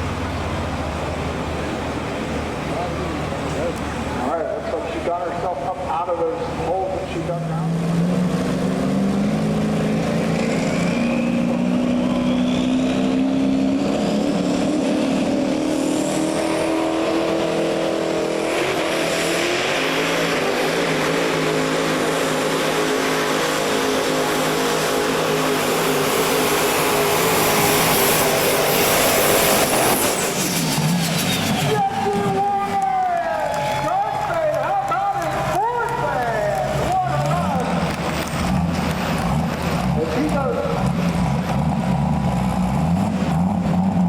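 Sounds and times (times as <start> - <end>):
diesel truck engine under load: 0.0 - 44.0.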